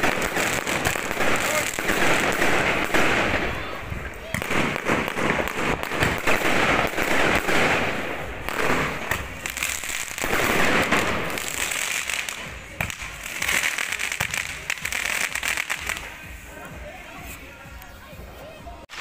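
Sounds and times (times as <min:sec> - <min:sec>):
fireworks bangs and pops: 0:00.0 - 0:16.4
firecrackers crackling: 0:00.0 - 0:17.8.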